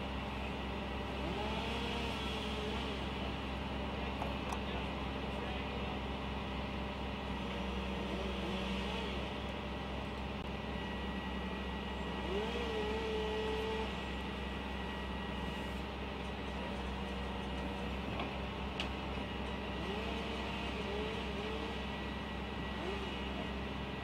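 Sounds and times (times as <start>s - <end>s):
truck engine droning: 0.0s - 24.0s.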